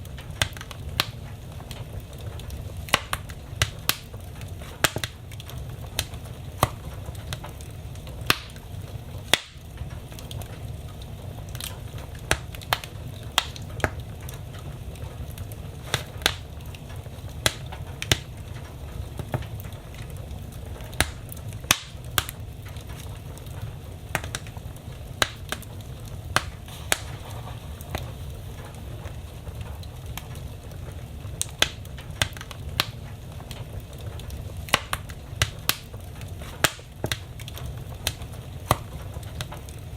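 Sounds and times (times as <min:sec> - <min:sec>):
burning logs crackling and popping: 0:00.0 - 0:39.9
low rumble of flames: 0:00.0 - 0:39.9.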